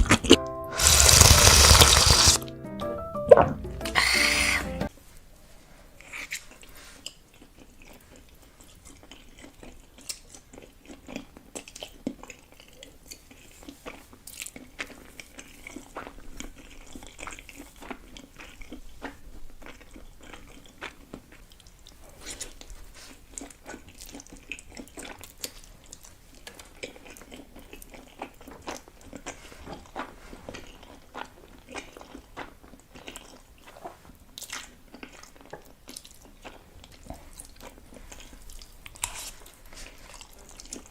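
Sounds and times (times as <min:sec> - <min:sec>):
person chewing and biting: 0:00.0 - 0:02.5, 0:03.8 - 0:04.7, 0:06.0 - 0:40.9.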